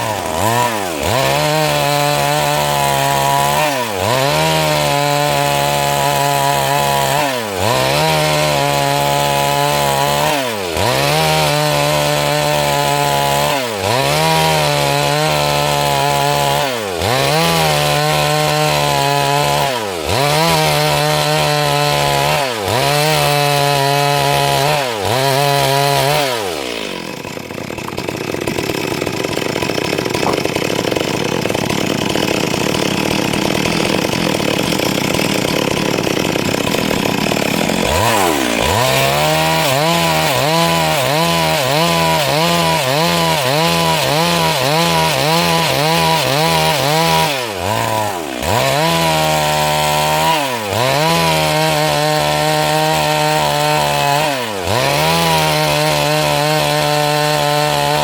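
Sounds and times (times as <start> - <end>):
chainsaw cutting wood: 0.0 - 58.0
chainsaw idling roughly: 0.0 - 58.0.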